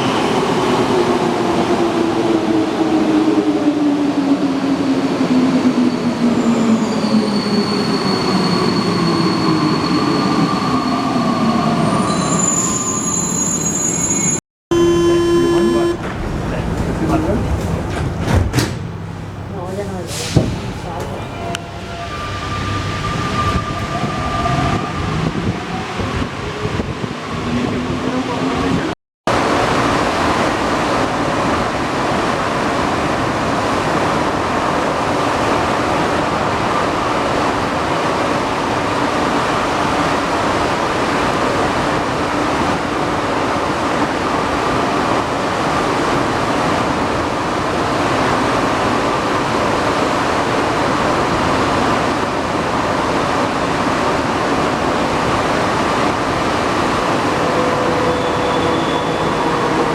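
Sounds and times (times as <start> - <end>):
metro train rushing: 0.0 - 59.9.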